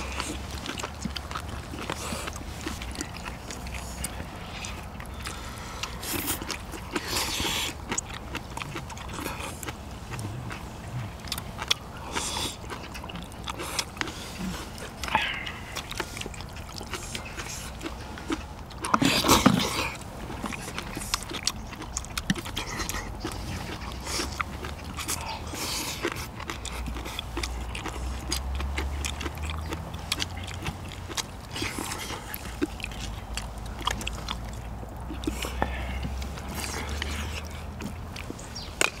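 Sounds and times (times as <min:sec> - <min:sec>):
people chewing: 0:00.0 - 0:39.0.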